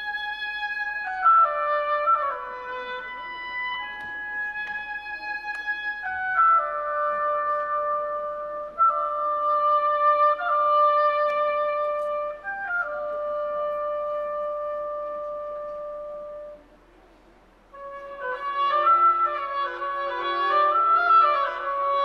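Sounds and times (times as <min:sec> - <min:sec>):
solo oboe melody: 0:00.0 - 0:16.8, 0:17.7 - 0:22.0.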